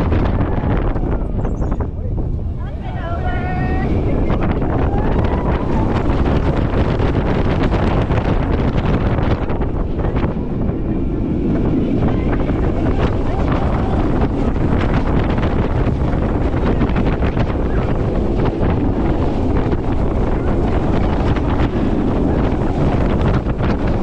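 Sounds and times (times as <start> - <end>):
roller coaster train rattling: 0.0 - 24.0
wind on microphone: 0.0 - 24.0.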